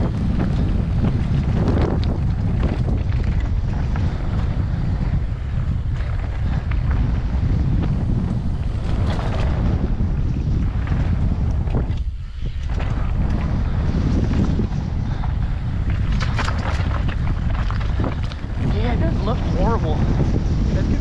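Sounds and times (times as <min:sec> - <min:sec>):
bike clicks and rattles: 0:00.0 - 0:21.0
tyres rumbling on gravel: 0:00.0 - 0:21.0
wind buffeting microphone: 0:00.0 - 0:21.0.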